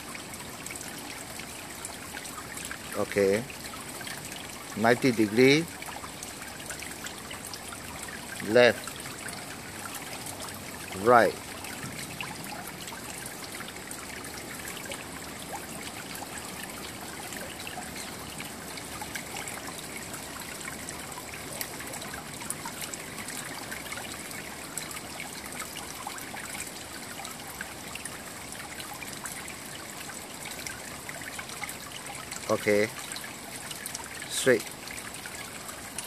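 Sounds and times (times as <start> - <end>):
water trickling and splashing: 0.0 - 36.0.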